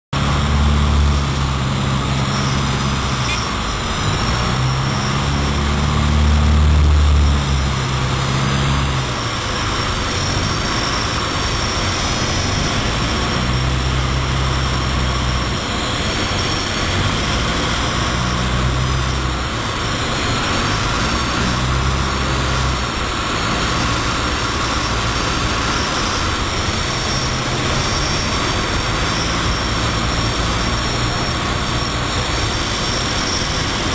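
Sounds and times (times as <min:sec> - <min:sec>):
aircraft engine and propeller drone: 0:00.1 - 0:33.9
rushing wind: 0:00.1 - 0:33.9.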